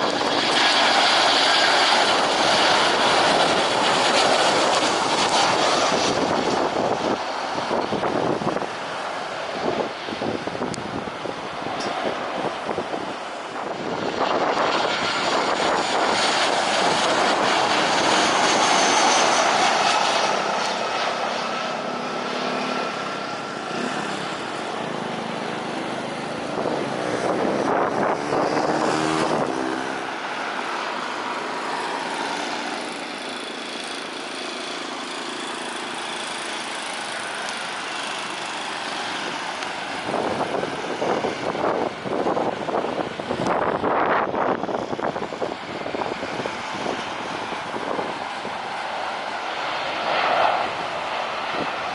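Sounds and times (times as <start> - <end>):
jet airliner engines whining: 0.0 - 51.9.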